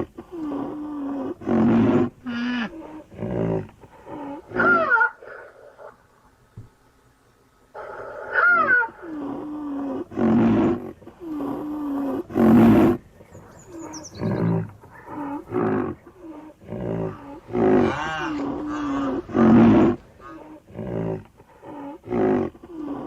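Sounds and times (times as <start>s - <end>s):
rhinoceros moaning and bellowing: 0.0s - 5.9s, 7.8s - 23.0s.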